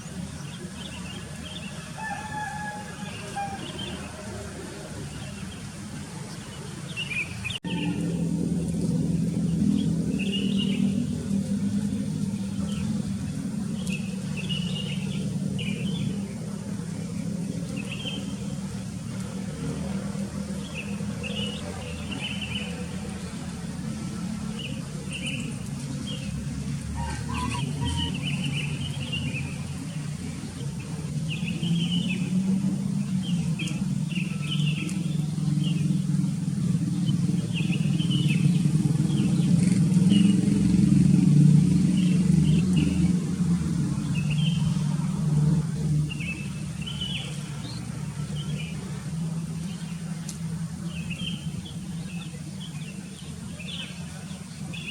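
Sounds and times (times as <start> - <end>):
birds chirping: 0.0 - 54.9
steady low rumble: 7.5 - 54.8.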